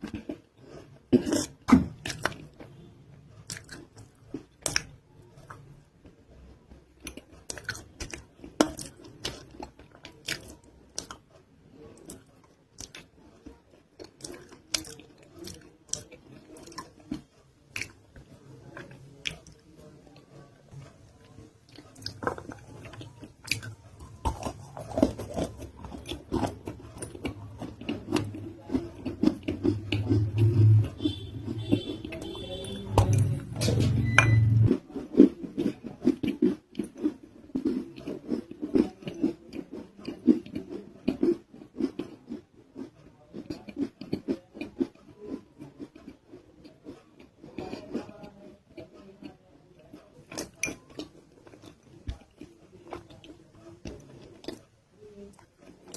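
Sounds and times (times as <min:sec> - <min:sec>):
close biting and chewing: 0:00.0 - 0:02.7, 0:03.4 - 0:05.7, 0:07.0 - 0:20.2, 0:21.7 - 0:54.7.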